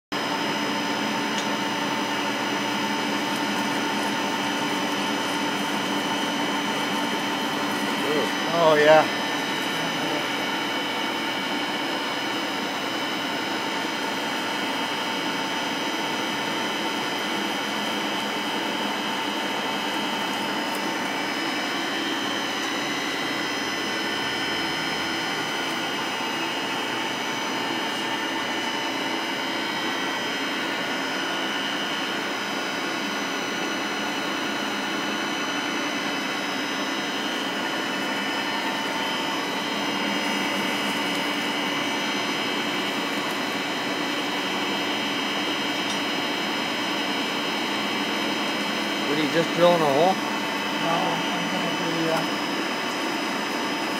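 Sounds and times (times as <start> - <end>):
milling machine spindle whine: 0.2 - 53.9.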